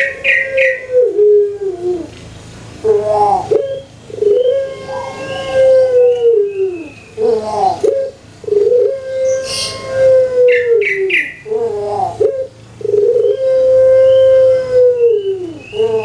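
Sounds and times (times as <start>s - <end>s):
dove cooing: 0.0s - 2.2s, 2.8s - 16.0s.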